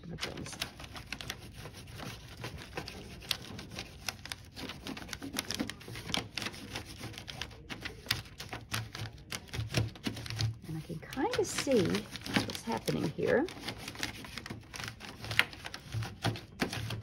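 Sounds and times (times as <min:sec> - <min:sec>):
crayon scratching on paper: 0:00.1 - 0:17.0.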